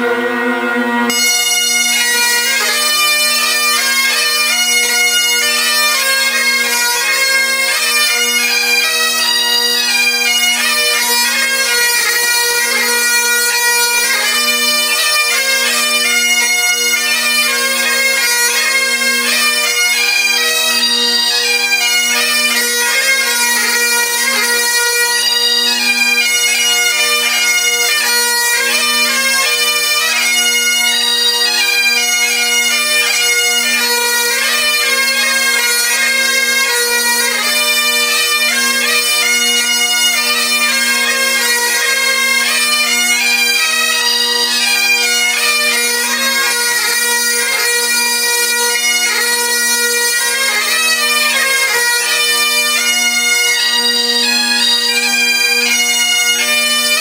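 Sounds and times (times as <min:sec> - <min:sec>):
bagpipe chanter melody: 0:00.0 - 0:57.0
bagpipe drones humming: 0:00.0 - 0:57.0.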